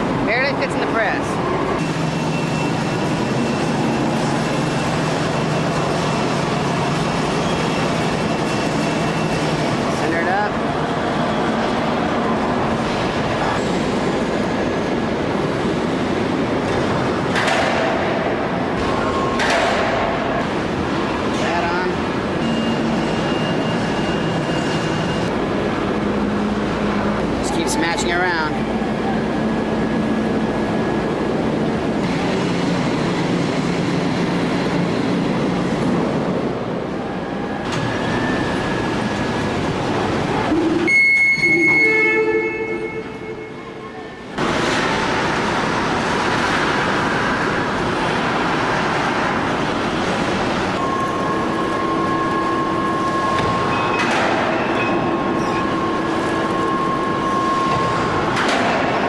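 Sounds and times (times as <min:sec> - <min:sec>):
forge shop machinery noise: 0:00.0 - 0:59.0.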